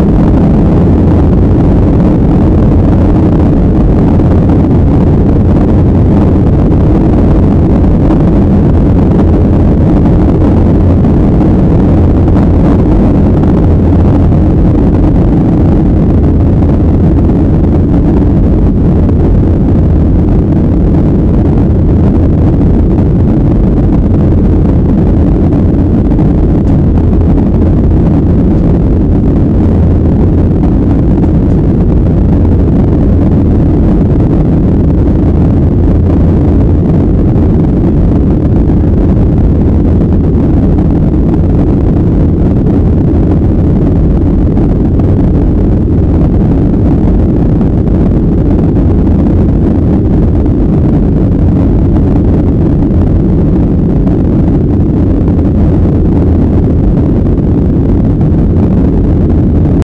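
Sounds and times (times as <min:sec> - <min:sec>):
rushing air: 0:00.0 - 0:59.8
jet engine rumble in cabin: 0:00.0 - 0:59.9.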